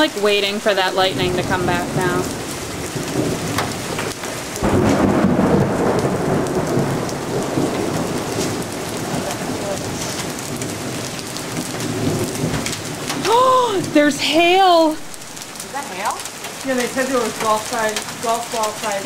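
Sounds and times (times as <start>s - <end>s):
heavy rain pouring: 0.0s - 19.0s
thunder rumble: 0.0s - 19.0s.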